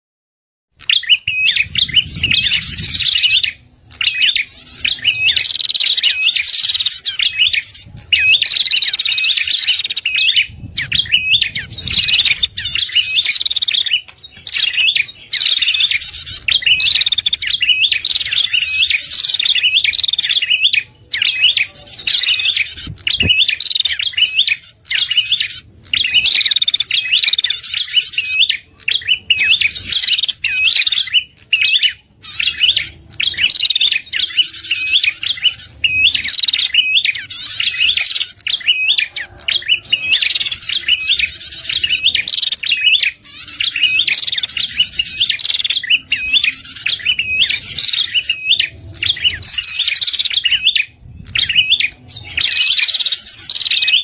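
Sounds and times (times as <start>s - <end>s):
bird lure call chirping: 0.8s - 54.0s.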